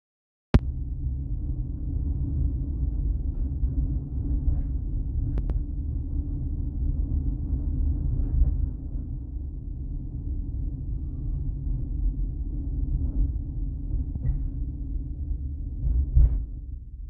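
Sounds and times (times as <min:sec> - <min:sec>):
vehicle rumble in motion: 0:00.6 - 0:17.0.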